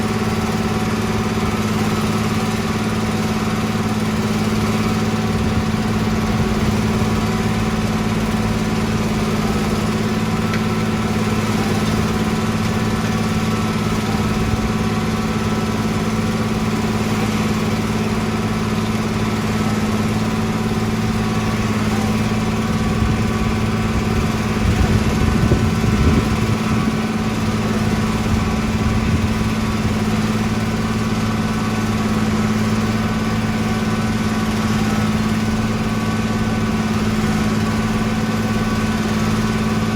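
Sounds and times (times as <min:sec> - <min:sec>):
construction machine engine running: 0:00.0 - 0:39.9.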